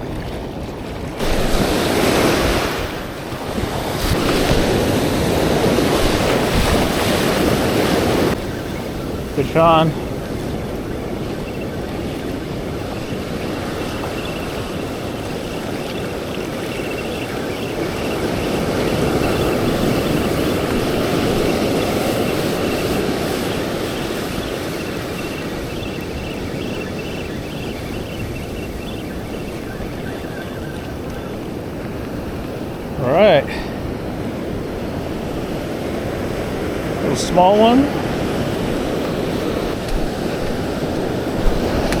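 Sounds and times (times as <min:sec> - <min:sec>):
ocean surf washing onto beach: 0:00.0 - 0:42.0
wind on microphone: 0:00.0 - 0:42.0.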